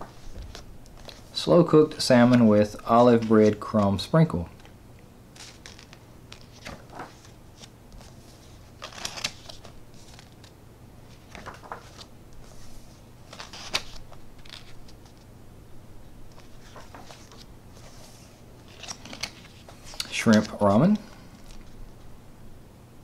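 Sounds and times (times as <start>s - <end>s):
book pages turning: 0.0s - 4.7s, 5.3s - 15.3s, 16.3s - 21.8s.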